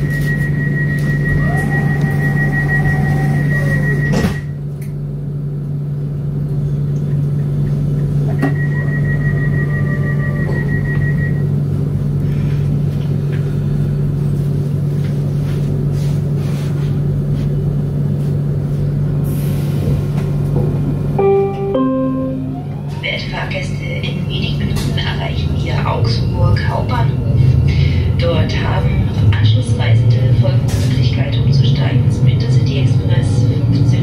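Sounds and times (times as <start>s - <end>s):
train low hum and rumble: 0.0s - 34.0s.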